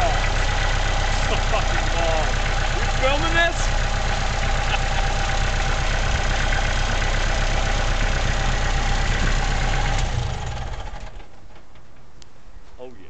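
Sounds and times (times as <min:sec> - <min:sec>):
tractor engine idling: 0:00.0 - 0:12.5.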